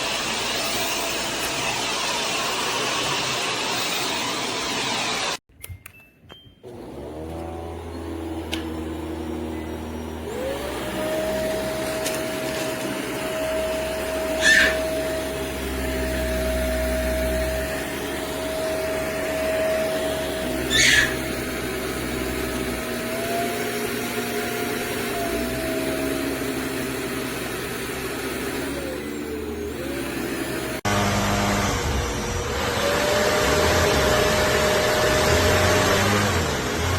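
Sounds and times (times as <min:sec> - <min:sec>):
vacuum cleaner motor whine: 0:00.0 - 0:05.4, 0:06.6 - 0:36.9.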